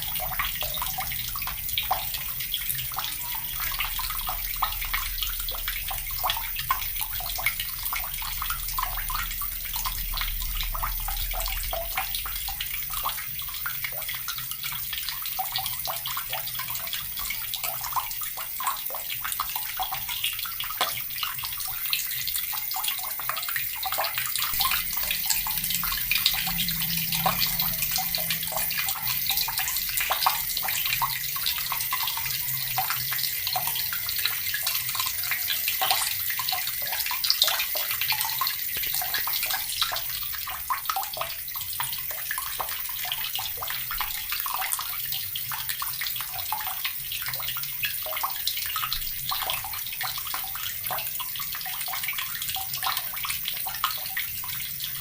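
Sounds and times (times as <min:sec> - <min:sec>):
tap water splashing into basin: 0:00.0 - 0:54.6.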